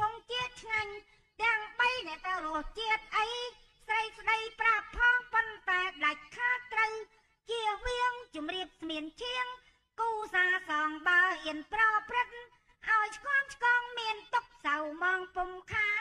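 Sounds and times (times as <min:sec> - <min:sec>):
woman singing in high voice: 0:00.0 - 0:16.0.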